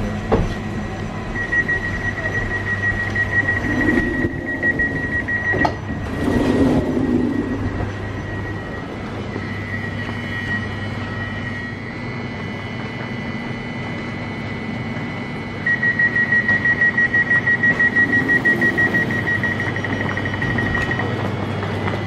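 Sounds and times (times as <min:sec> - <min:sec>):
train hum: 0:00.0 - 0:14.2, 0:17.5 - 0:22.0
door-closing warning beeps: 0:00.2 - 0:14.3, 0:15.5 - 0:21.2.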